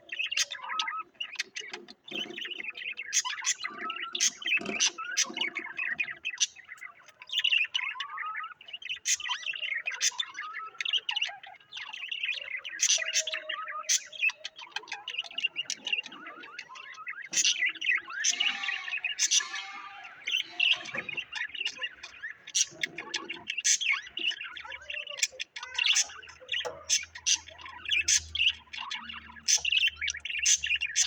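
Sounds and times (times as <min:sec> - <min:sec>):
small birds chirping and warbling: 0:00.0 - 0:31.0.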